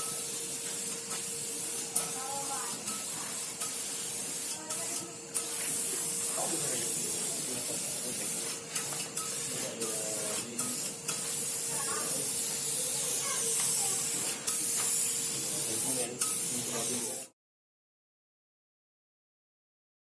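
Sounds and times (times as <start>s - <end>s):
steady hissing noise: 0.0s - 17.3s.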